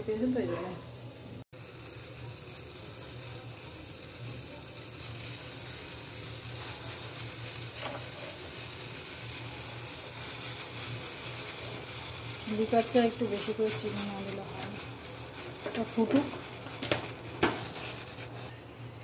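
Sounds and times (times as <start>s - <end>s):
water boiling in a saucepan: 0.0s - 18.6s.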